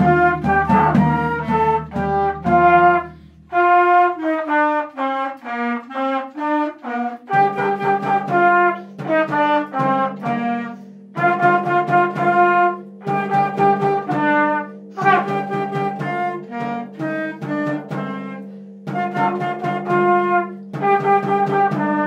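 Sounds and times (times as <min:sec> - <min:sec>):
flute clarinet and trumpet trio: 0:00.0 - 0:22.0.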